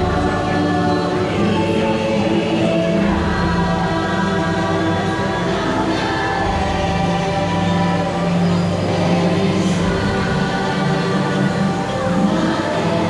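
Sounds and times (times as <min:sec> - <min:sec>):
choir-like singing: 0:00.0 - 0:13.0
low steady drone: 0:00.0 - 0:13.0.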